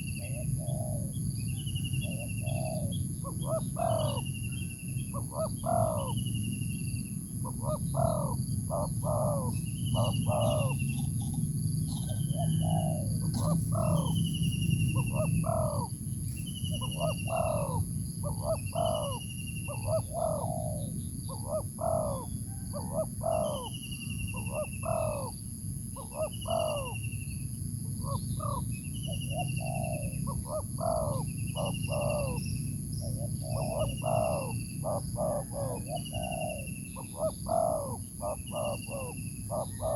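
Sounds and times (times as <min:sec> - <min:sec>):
birds whistling: 0:00.0 - 0:39.9
steady low hum: 0:00.0 - 0:39.9.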